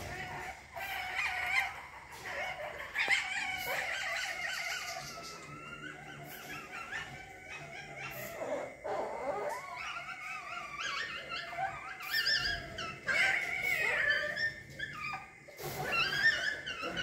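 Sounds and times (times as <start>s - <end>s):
civets whining cries: 0.0s - 17.0s.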